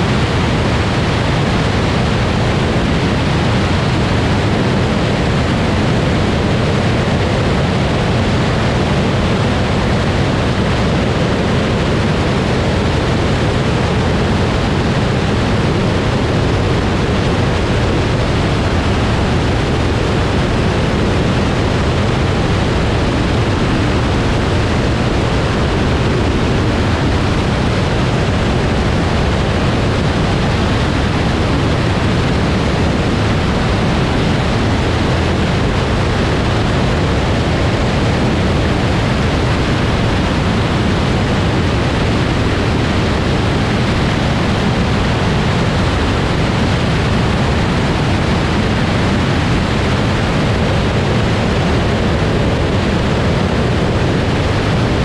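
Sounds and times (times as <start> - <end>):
plane engine and propeller droning: 0.0 - 55.0
slipstream wind rushing: 0.0 - 55.0.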